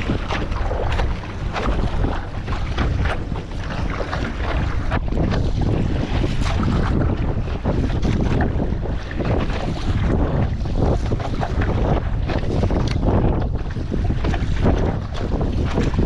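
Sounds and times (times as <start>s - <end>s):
choppy water splashing: 0.0s - 16.0s
wind buffeting microphone: 0.0s - 16.0s.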